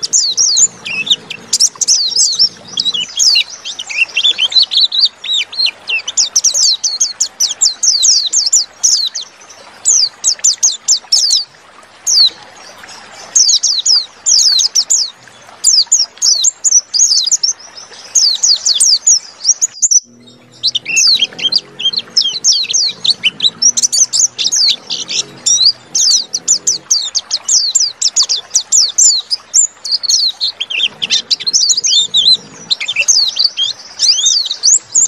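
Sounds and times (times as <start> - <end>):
bird twittering song: 0.0 - 35.0.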